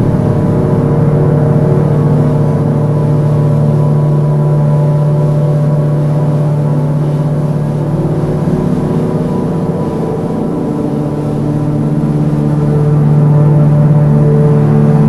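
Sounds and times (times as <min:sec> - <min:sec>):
ambient music with low drone: 0:00.0 - 0:15.0.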